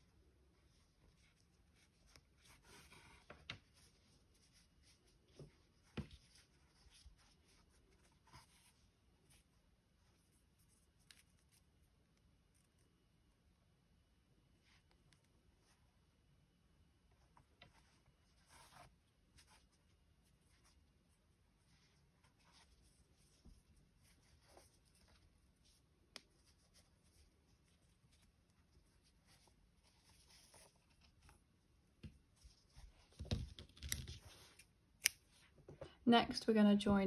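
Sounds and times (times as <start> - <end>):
hands rustling a plush toy: 0.0 - 12.8, 17.1 - 35.6.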